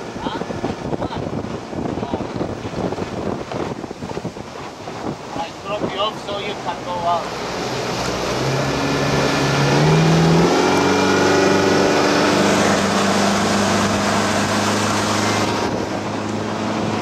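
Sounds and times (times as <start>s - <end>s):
outboard motors revving: 0.0s - 17.0s.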